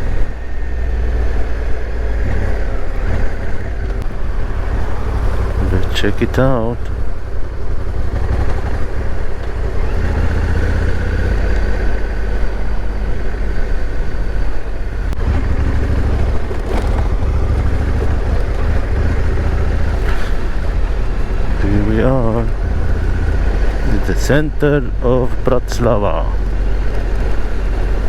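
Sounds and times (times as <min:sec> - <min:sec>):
motorcycle engine rumble: 0:00.0 - 0:28.0
road noise: 0:00.0 - 0:28.0.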